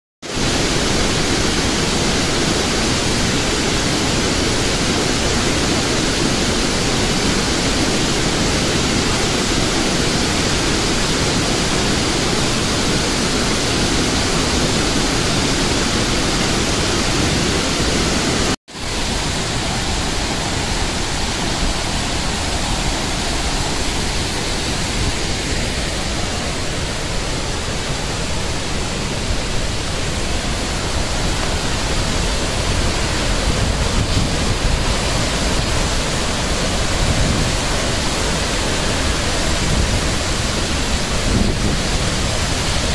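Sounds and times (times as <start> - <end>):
waterfall and stream rushing: 0.2 - 42.9.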